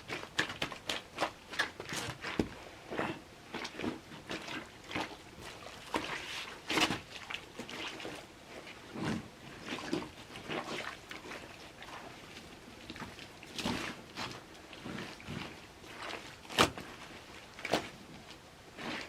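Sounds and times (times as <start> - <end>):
wet mud squelching: 0.1 - 19.0.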